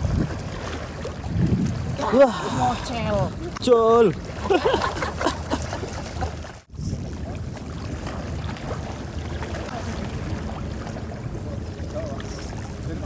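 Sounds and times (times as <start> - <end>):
wind rumble on microphone: 0.0 - 3.6, 4.2 - 13.0.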